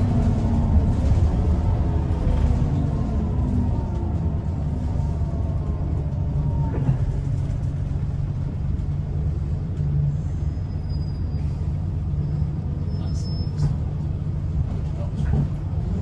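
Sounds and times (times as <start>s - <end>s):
bus engine low rumble: 0.0s - 16.0s.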